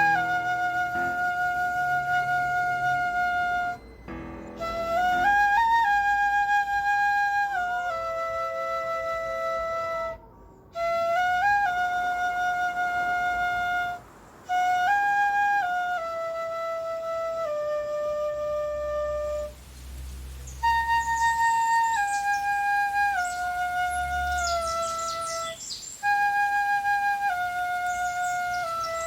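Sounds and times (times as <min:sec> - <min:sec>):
flute-like wind instrument melody: 0:00.0 - 0:29.0.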